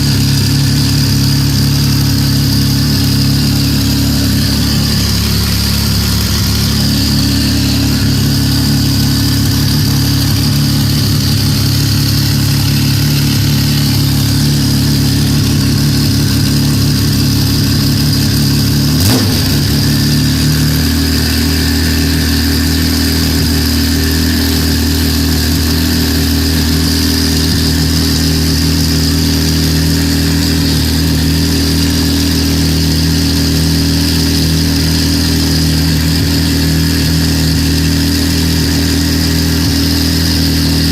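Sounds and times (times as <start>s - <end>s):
race car engine idling: 0.0s - 40.9s.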